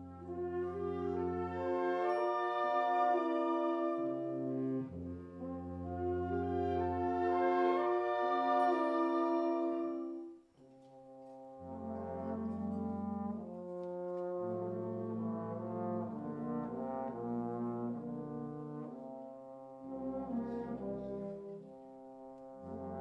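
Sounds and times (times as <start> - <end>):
brass band playing slow chords: 0.0 - 23.0.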